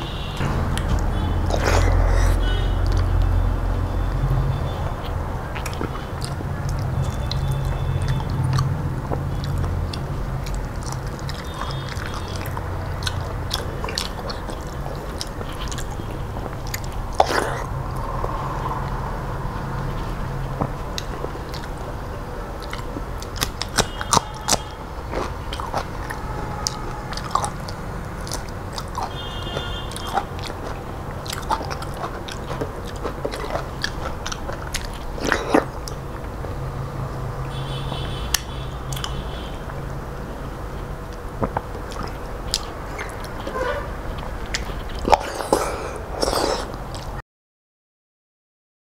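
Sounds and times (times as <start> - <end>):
person chewing and mouth smacking: 0.0 - 19.1, 19.9 - 39.8, 40.8 - 47.2.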